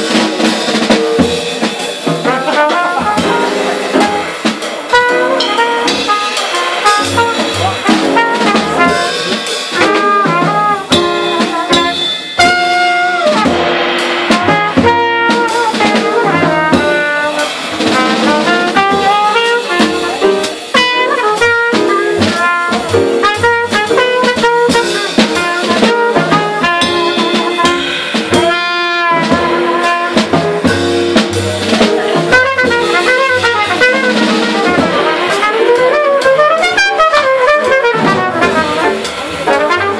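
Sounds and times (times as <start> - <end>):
cornet melody: 0.0 - 39.9
double bass: 0.0 - 39.9
drum kit with cymbals: 0.0 - 39.9
piano: 0.0 - 39.9.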